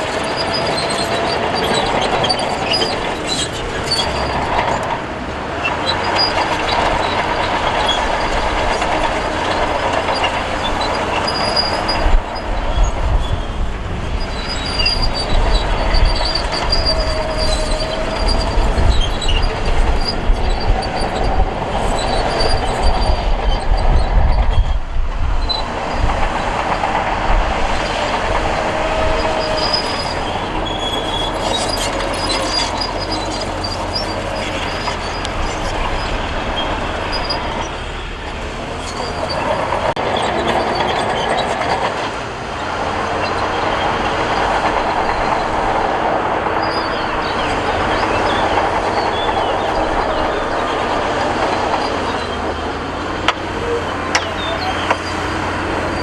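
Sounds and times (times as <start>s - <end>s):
wavering metallic squeal: 0.0s - 41.8s, 42.9s - 56.0s
diesel engine under load: 0.0s - 56.0s
steel tracks grinding and clanking: 0.0s - 56.0s.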